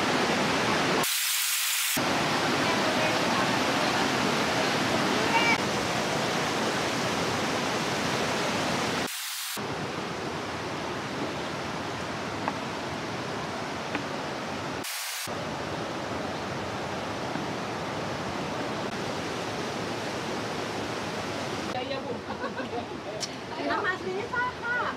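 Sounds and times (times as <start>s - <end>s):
rushing water: 0.0s - 24.9s.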